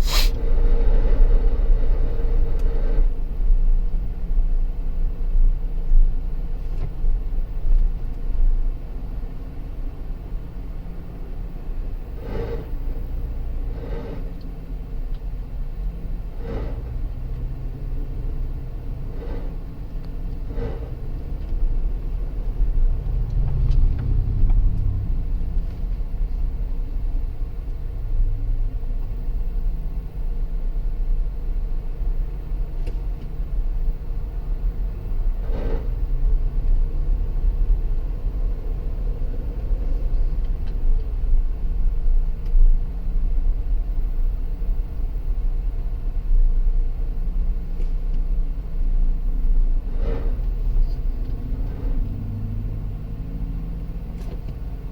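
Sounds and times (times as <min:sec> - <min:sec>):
car engine rumble: 0:00.0 - 0:54.9.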